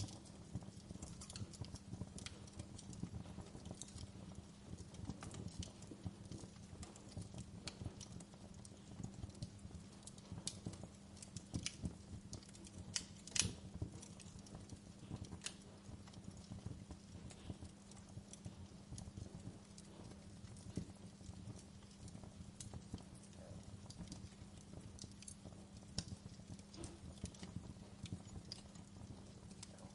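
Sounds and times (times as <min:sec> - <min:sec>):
low rumble of flames: 0:00.0 - 0:29.9
wood fire crackling and popping: 0:00.0 - 0:29.9.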